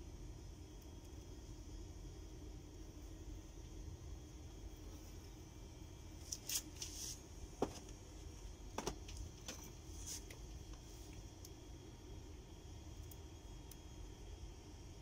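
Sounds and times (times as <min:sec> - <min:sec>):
low rumble of air unit: 0:00.0 - 0:15.0.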